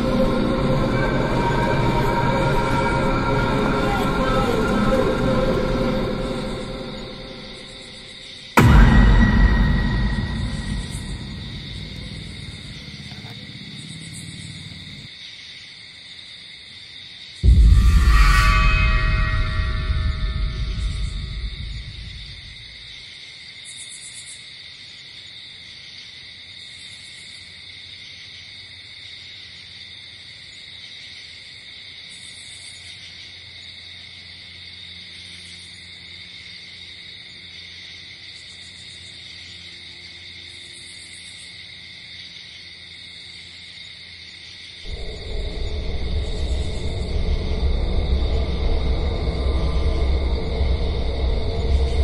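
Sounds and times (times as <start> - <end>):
crickets chirring: 0.0 - 52.0
high insect trill: 0.0 - 52.0.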